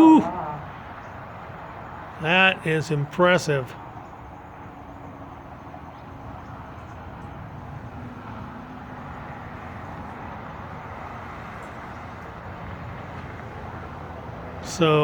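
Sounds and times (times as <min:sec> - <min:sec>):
distant highway traffic hum: 0:00.0 - 0:15.0.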